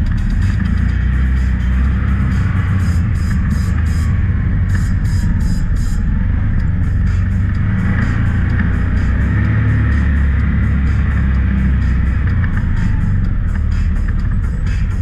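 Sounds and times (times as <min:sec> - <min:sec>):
engine running steadily: 0:00.0 - 0:15.0
music with ticking beat: 0:00.0 - 0:15.0.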